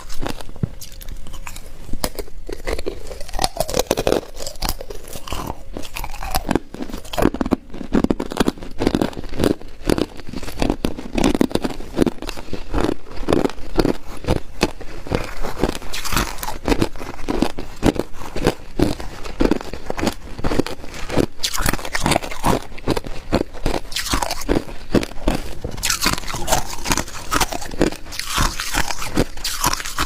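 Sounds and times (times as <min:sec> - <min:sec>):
ice crunching being chewed: 0:00.0 - 0:30.0.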